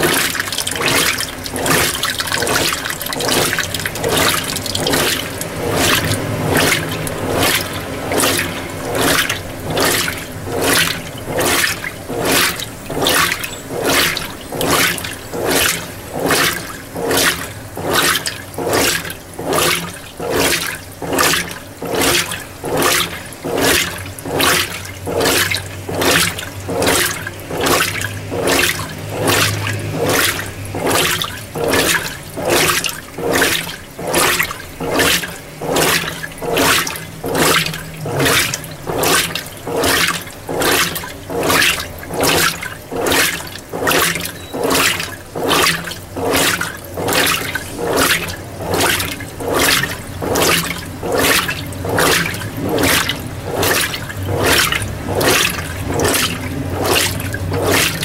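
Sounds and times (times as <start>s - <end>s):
washing machine water swishing: 0.0s - 58.0s.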